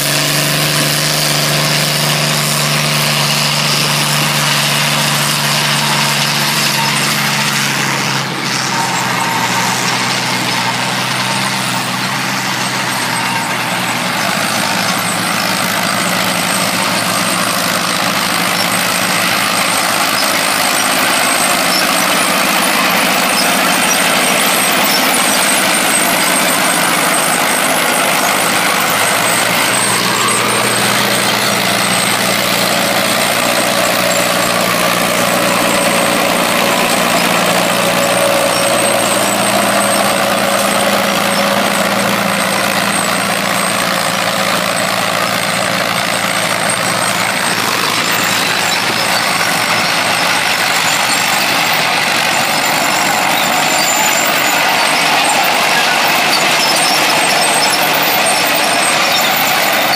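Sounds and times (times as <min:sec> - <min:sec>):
tractor diesel engines running: 0:00.0 - 0:59.9.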